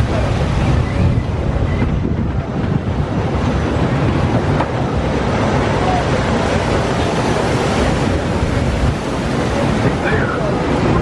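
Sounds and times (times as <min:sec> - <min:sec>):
train rumbling along track: 0:00.0 - 0:11.0
wind on microphone: 0:00.0 - 0:11.0.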